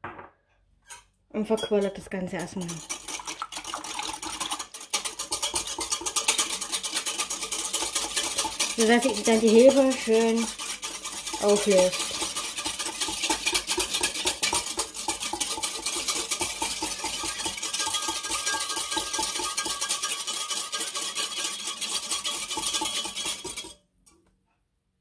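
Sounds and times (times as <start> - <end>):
whisk clinking against glass jug: 1.5 - 23.8.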